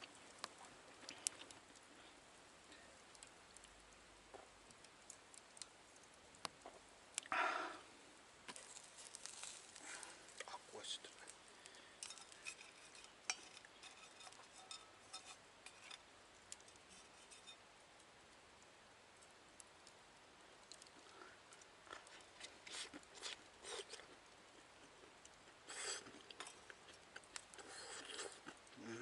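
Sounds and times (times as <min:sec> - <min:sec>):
faint utensil clicks and clatter: 0:00.0 - 0:07.3, 0:08.5 - 0:20.0, 0:20.6 - 0:28.7
rustle: 0:00.0 - 0:29.0.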